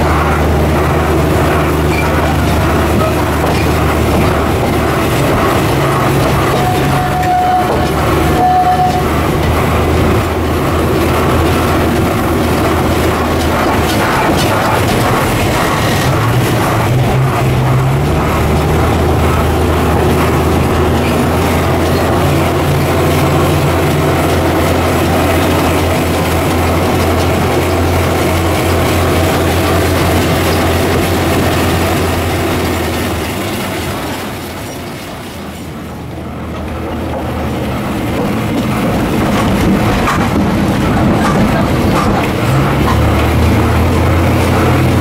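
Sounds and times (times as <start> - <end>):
tram engine drone: 0.0 - 45.0
wheel and rail noise: 0.0 - 45.0.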